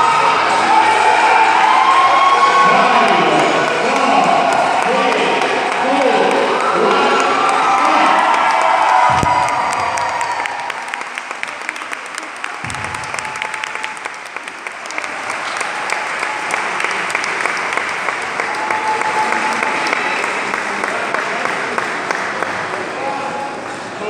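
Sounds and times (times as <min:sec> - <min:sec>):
spectators applauding: 0:00.0 - 0:23.2.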